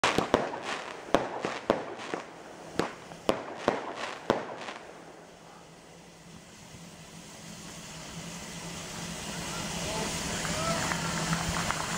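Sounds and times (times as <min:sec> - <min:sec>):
crackling hiss: 0:00.0 - 0:11.9
fireworks bangs: 0:00.0 - 0:11.9.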